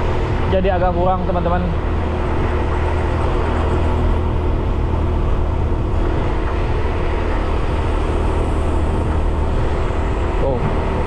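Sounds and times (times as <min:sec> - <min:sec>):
motorbike engine running: 0:00.0 - 0:11.0
road noise: 0:00.0 - 0:11.0
rushing air: 0:00.0 - 0:11.0.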